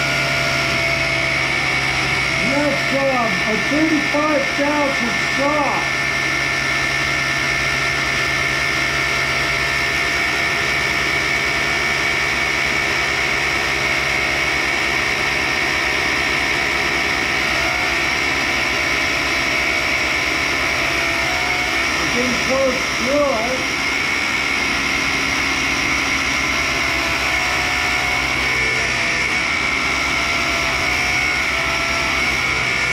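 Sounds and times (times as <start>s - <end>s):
grinder high whine: 0.0s - 32.9s
mechanical hum: 0.0s - 32.9s.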